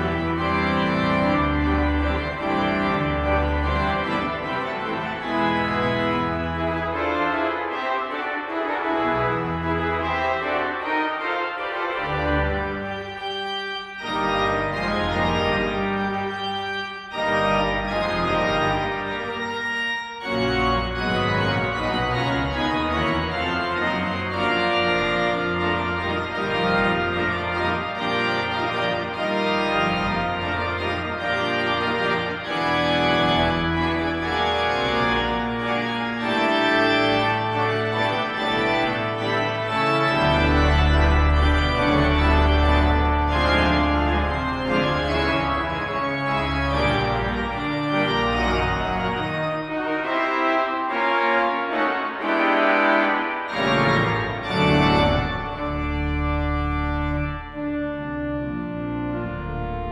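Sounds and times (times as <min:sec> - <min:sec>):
pipe organ playing chords: 0:00.0 - 0:59.9.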